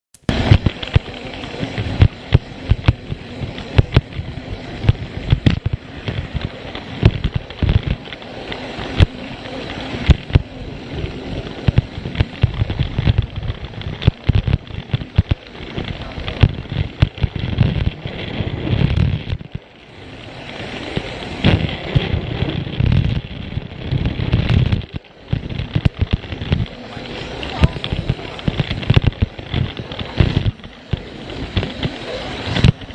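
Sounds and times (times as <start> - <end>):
toy train motor whir: 0.3 - 32.9.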